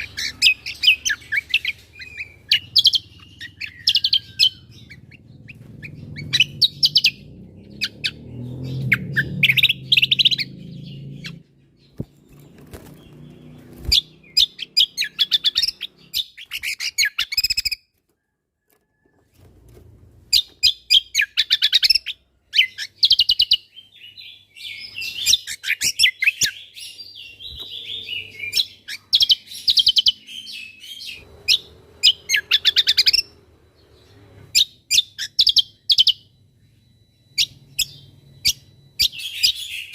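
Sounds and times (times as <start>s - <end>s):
bird chirps and trills: 0.0s - 18.0s, 20.3s - 39.9s.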